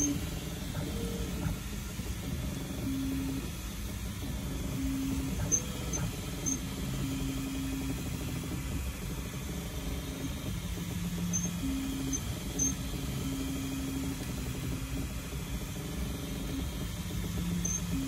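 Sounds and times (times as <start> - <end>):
cooling fans hissing: 0.0 - 18.0
stepper motors whining: 0.0 - 18.0.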